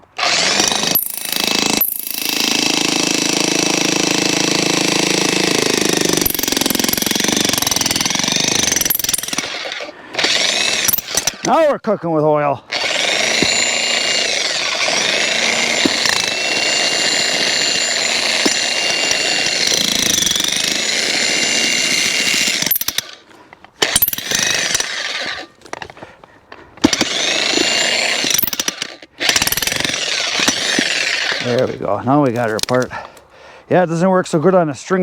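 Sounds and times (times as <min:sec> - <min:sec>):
jackhammer splitting wood: 0:00.0 - 0:11.6, 0:12.7 - 0:26.1, 0:26.8 - 0:32.8.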